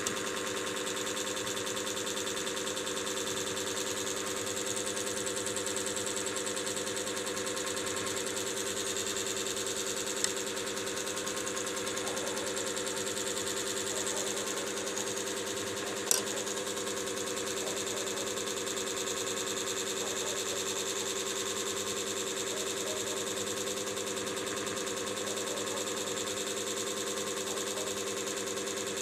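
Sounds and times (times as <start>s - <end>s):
small machine buzzing hum: 0.0s - 29.0s.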